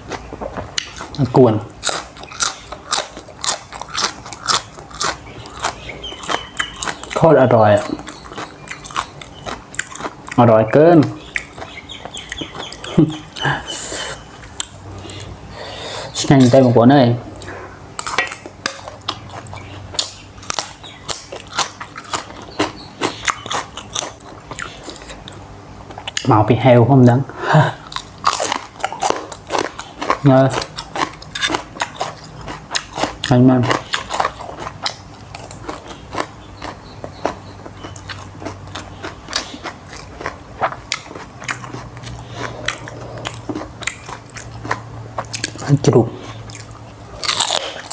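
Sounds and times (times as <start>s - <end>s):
chewing and crunching food: 0.0s - 15.4s, 16.1s - 26.4s, 27.7s - 47.9s.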